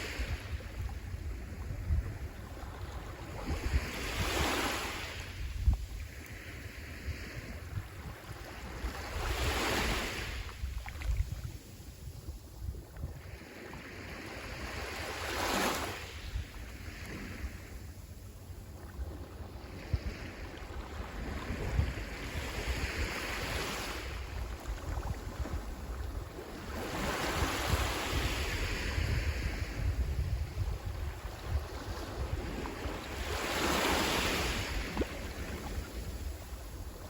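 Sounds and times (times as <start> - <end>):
sea waves breaking on shore: 0.0 - 37.0
wind rumble on microphone: 0.0 - 37.0.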